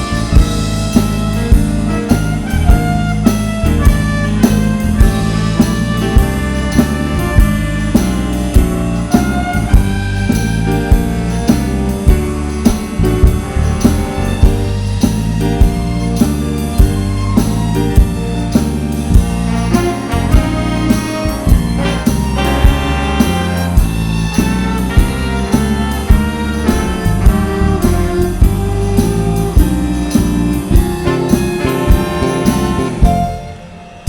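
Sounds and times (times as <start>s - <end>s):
music with drum beat and bass: 0.0s - 34.0s.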